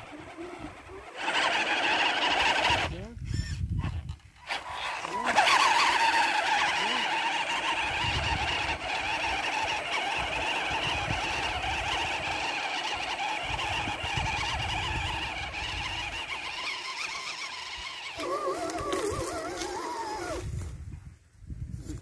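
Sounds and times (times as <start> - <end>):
electric motor and gearbox whining: 0.0 - 20.8.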